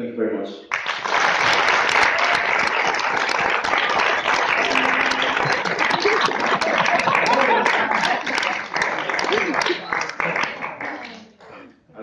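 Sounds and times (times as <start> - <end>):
audience applauding: 0.7 - 11.6.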